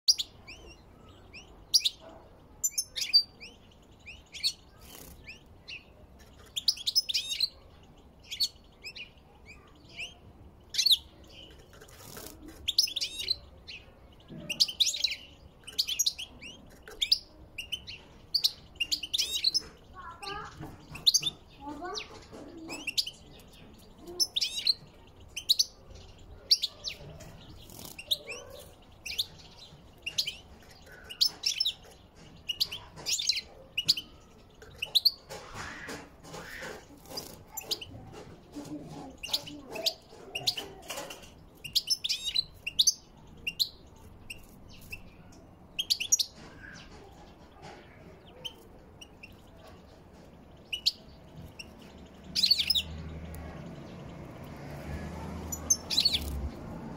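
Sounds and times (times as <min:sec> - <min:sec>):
finches chirping and twittering: 0:00.1 - 0:56.9.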